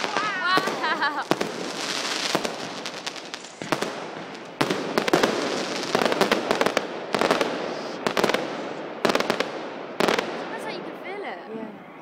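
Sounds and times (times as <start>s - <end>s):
fireworks bangs and crackles: 0.0s - 11.5s.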